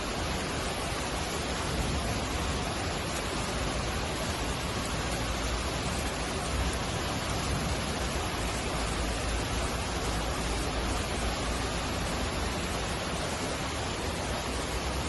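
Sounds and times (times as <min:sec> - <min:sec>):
heavy rain: 0:00.0 - 0:15.0
running water: 0:00.0 - 0:15.0.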